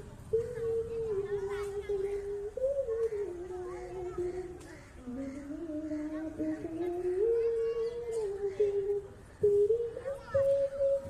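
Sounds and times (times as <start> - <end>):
girl singing: 0.2 - 11.0.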